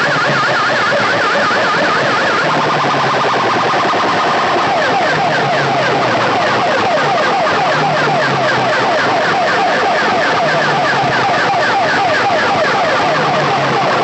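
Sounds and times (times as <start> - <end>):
electronic siren chirps: 0.0 - 14.0.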